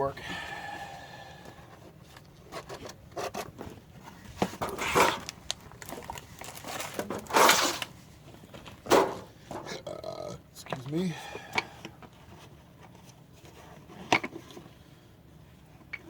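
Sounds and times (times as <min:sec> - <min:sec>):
rustling and handling noise: 0:01.4 - 0:09.7, 0:10.6 - 0:16.0.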